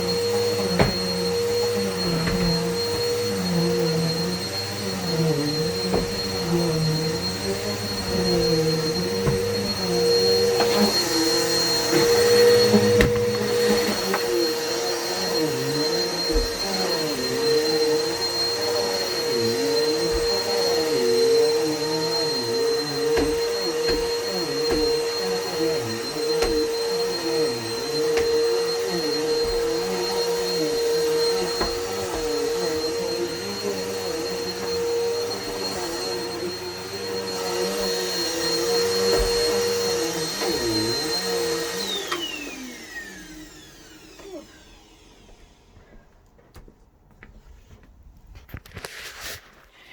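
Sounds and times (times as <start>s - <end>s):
vacuum cleaner whining: 0.0s - 47.3s.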